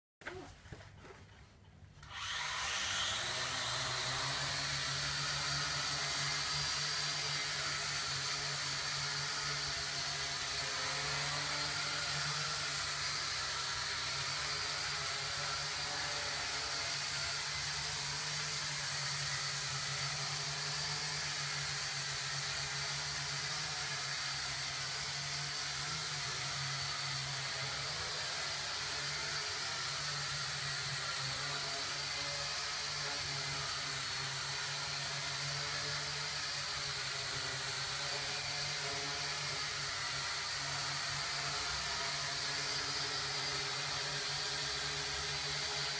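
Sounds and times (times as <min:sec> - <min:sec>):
quadcopter propellers whirring: 0:02.0 - 0:45.9.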